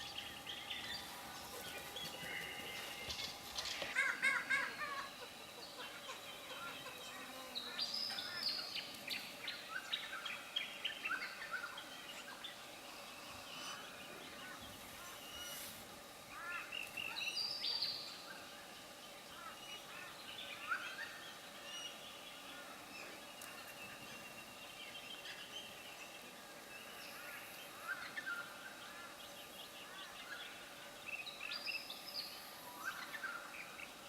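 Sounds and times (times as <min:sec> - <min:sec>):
small birds chirping: 0:00.0 - 0:15.7, 0:16.3 - 0:34.0.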